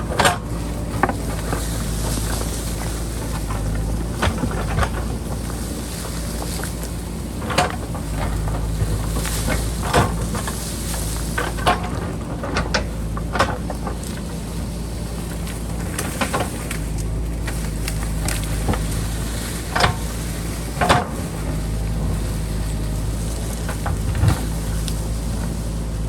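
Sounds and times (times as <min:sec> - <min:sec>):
backhoe diesel engine running: 0:00.0 - 0:26.0.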